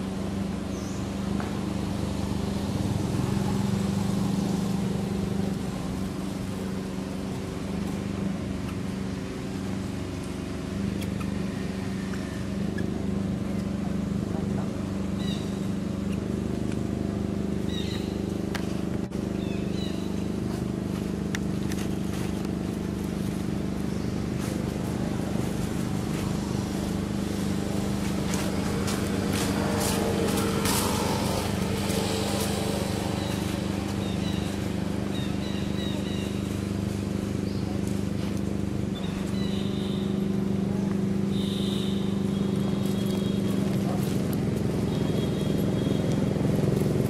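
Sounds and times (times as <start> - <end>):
low engine-like hum: 0.0 - 47.0.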